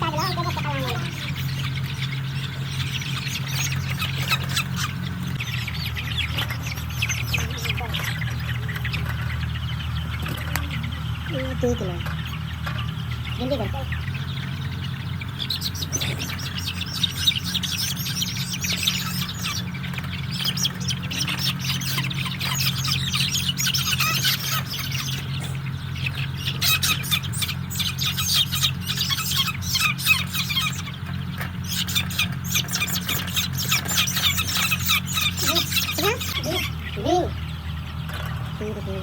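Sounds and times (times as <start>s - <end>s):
chicks peeping: 0.0s - 39.0s
steady low hum: 0.0s - 39.0s.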